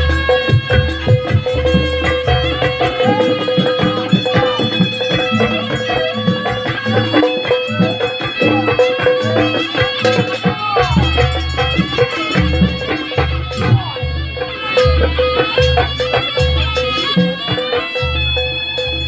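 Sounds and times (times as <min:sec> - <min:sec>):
drums beating: 0:00.0 - 0:19.0
reedy shawm melody: 0:00.0 - 0:19.0.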